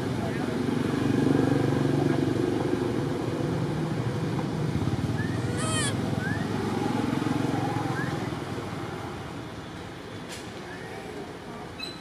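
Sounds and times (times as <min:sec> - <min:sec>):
engine rumbling steadily: 0:00.0 - 0:11.8.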